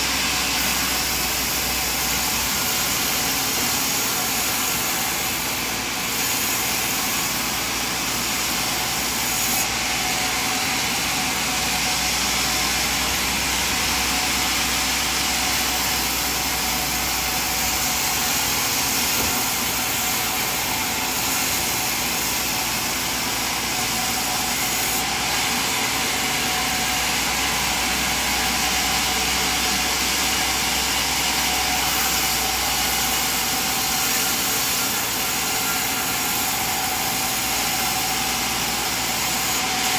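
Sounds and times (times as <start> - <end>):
sawmill machine running: 0.0 - 39.9.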